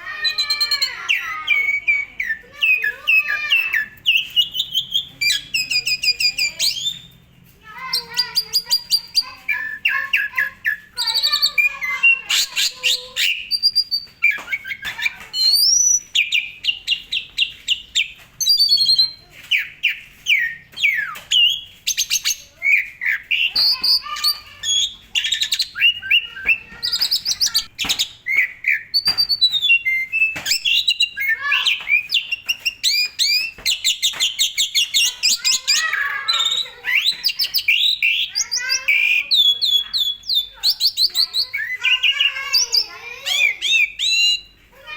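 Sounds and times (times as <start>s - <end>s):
starling singing: 0.0s - 44.9s.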